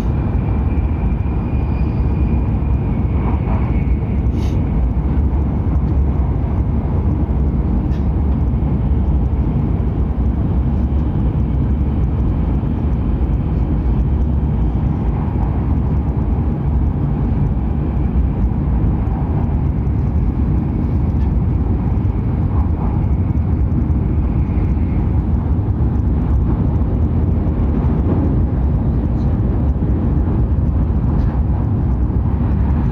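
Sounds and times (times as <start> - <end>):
train running rumble: 0.0 - 32.9.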